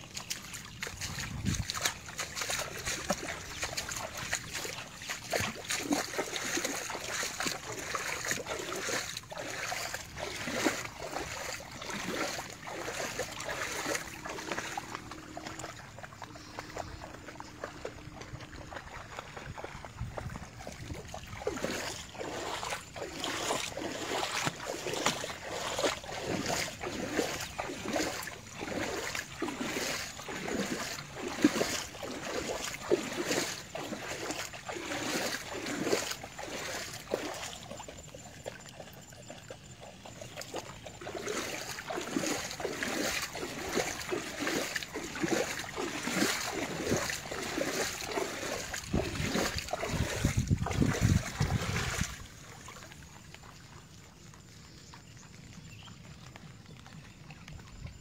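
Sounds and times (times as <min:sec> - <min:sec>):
footsteps splashing through water: 0:00.0 - 0:58.0.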